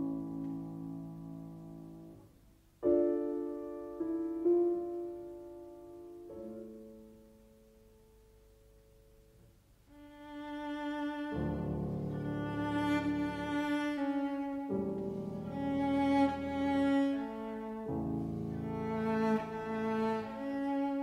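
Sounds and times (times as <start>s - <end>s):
gentle piano chords: 0.0s - 21.0s.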